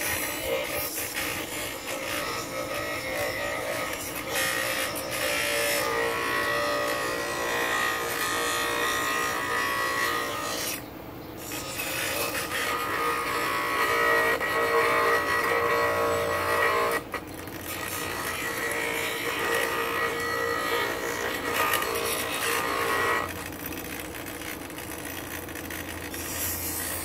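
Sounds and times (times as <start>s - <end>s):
grinder motor whine: 0.0s - 27.0s
wood grinding rasp: 0.0s - 27.0s.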